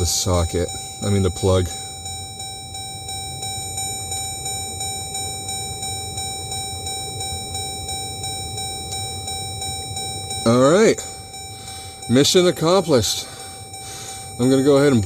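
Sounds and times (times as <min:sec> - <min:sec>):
blower hum with high whine: 0:00.0 - 0:15.0
light regular ticking: 0:00.0 - 0:15.0.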